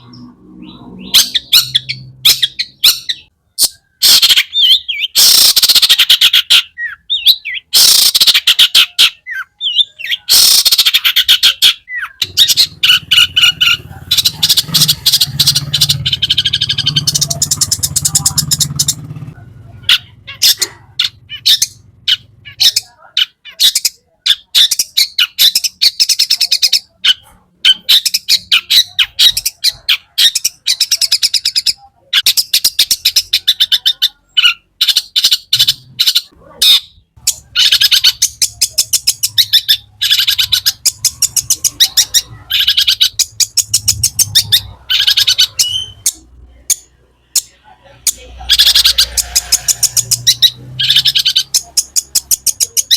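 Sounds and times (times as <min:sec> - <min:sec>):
bird singing sharp chirps: 0:00.0 - 0:46.2.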